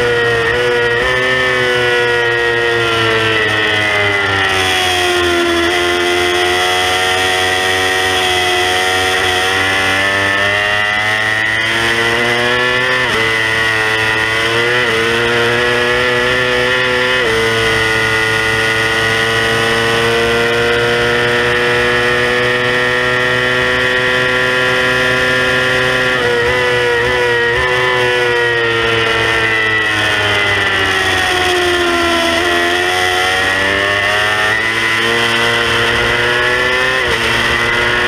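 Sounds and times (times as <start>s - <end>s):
motorcycle engine at full throttle: 0.0s - 38.0s.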